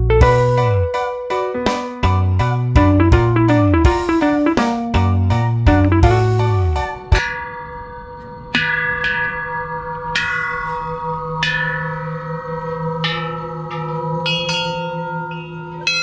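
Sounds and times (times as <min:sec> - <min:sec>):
temple bells ringing: 0:00.0 - 0:16.0.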